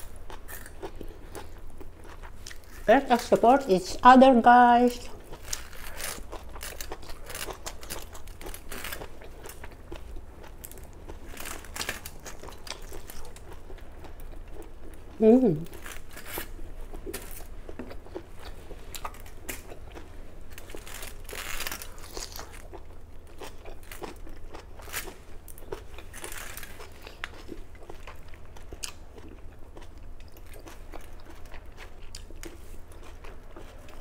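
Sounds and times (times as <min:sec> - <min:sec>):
person chewing crunchy vegetables: 0:00.0 - 0:03.4, 0:05.0 - 0:34.0.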